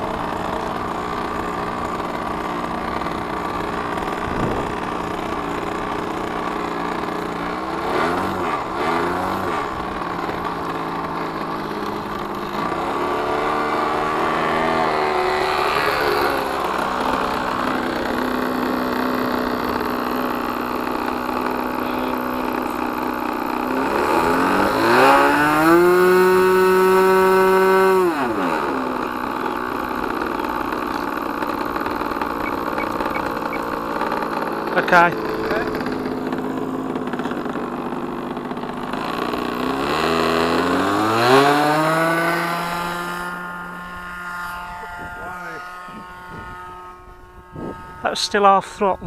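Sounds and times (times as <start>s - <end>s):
model plane engine running: 0.0s - 49.0s.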